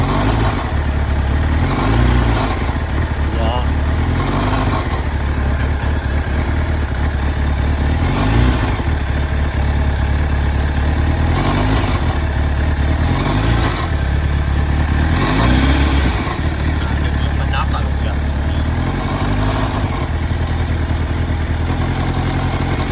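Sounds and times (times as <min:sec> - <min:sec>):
abnormal engine noise: 0:00.0 - 0:22.9
motorcycle engine revving: 0:00.0 - 0:22.9.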